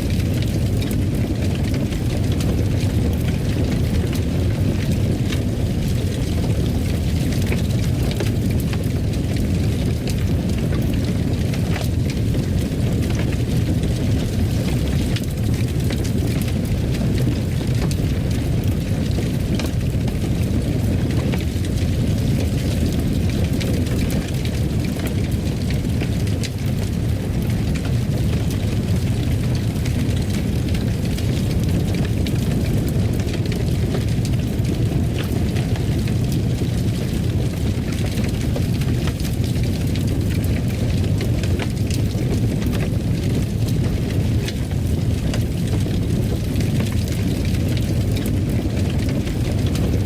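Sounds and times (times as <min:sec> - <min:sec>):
fire crackling: 0:00.0 - 0:50.0
fire rumbling in fireplace: 0:00.0 - 0:50.0.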